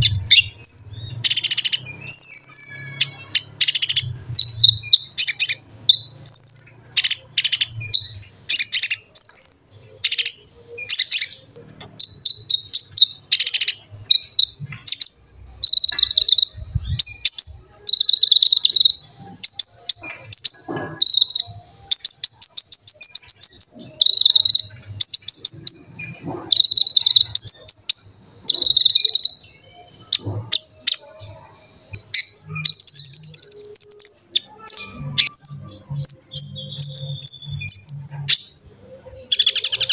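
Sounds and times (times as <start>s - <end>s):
sunbird singing: 0.0s - 39.9s.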